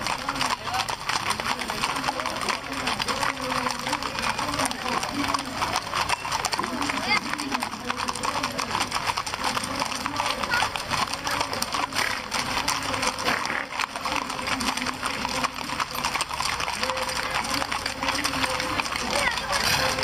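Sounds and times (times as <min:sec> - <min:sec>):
horse hooves clopping on street: 0:00.0 - 0:20.0
people talking: 0:00.0 - 0:20.0.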